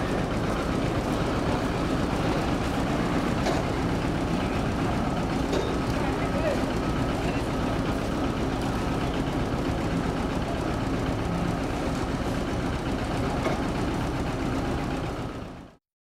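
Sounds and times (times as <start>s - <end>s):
forklift engine idling: 0.0s - 15.8s.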